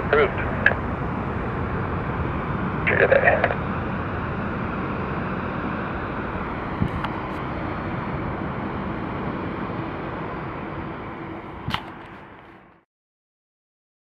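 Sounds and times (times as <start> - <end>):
jet engine rushing: 0.0 - 12.7.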